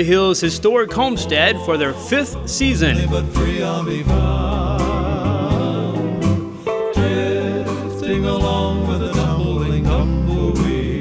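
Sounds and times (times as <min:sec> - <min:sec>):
upright bass: 0:00.0 - 0:11.0
male vocal group singing in harmony: 0:01.3 - 0:11.0.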